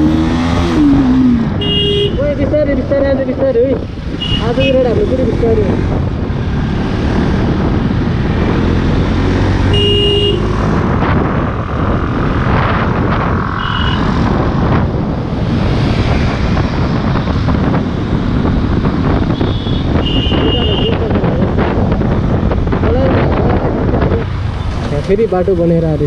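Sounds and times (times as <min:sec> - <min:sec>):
wind buffeting microphone: 0:02.3 - 0:09.7, 0:10.4 - 0:26.0.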